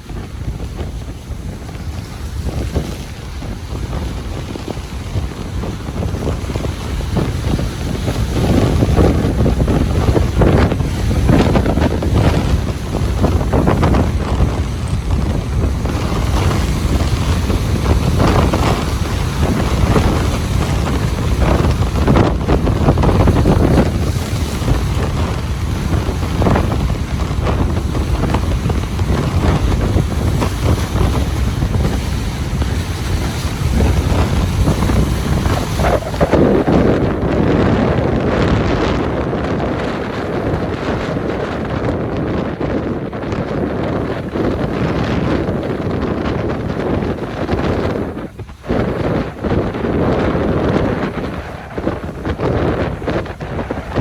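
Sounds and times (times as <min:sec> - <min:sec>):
ocean surf breaking on beach: 0:00.0 - 0:54.0
wind buffeting microphone: 0:00.0 - 0:54.0.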